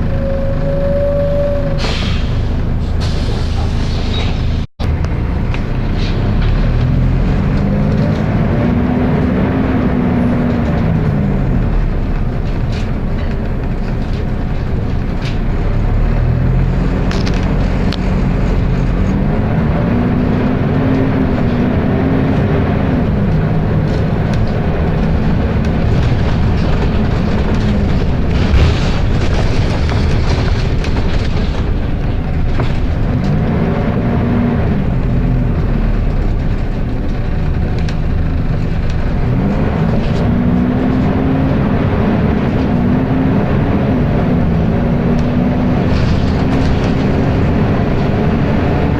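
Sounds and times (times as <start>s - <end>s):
bus cooling fan roaring: 1.4s - 48.9s.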